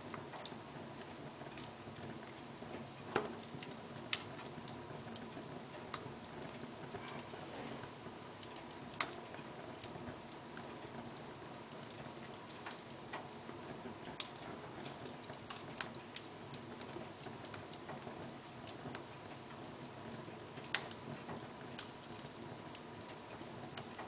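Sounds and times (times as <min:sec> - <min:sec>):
soft fire hiss: 0:00.0 - 0:24.0
wood fire crackling: 0:00.0 - 0:24.0.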